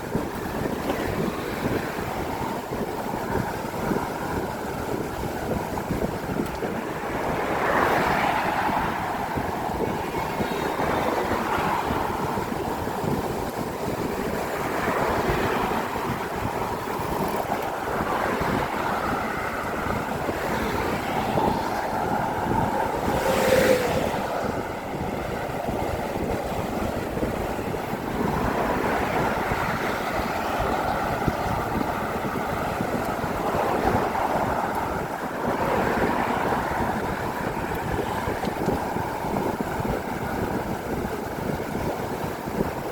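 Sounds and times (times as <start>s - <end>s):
cars passing on bridge: 0.0s - 42.9s.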